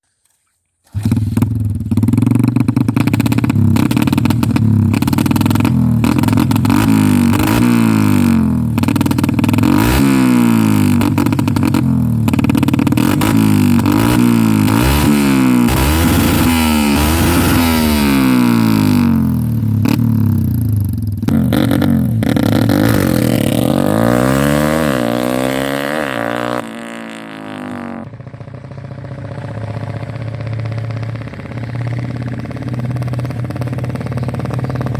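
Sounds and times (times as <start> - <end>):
motorcycle engine revving: 0.9 - 34.9.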